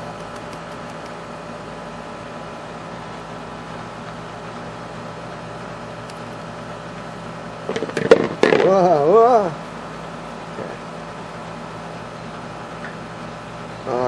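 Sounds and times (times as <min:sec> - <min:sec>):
mechanical hum with held tones: 0:00.0 - 0:14.0.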